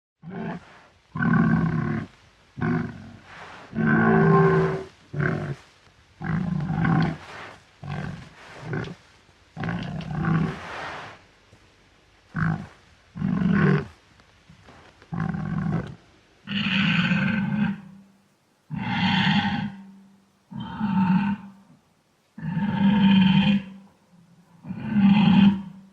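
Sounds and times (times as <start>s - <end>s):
wild boar grunting and growling: 0.2s - 11.2s, 12.3s - 14.0s, 15.1s - 18.0s, 18.7s - 21.7s, 22.4s - 25.9s.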